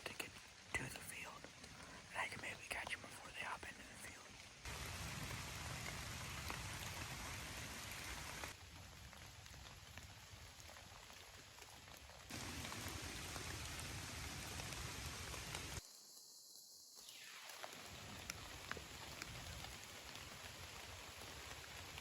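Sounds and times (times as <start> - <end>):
rain pattering on woods: 0.0 - 15.8, 17.1 - 22.0.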